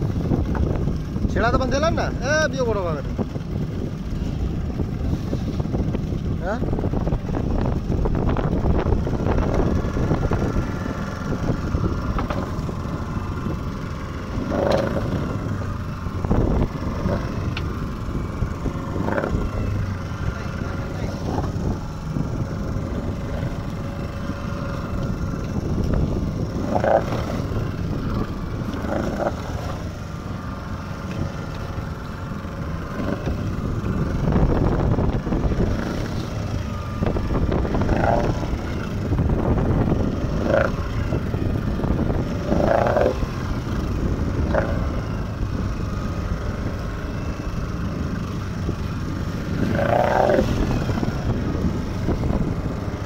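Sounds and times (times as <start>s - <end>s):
boat engine running: 0.0s - 53.0s
water rushing along hull: 0.0s - 53.0s.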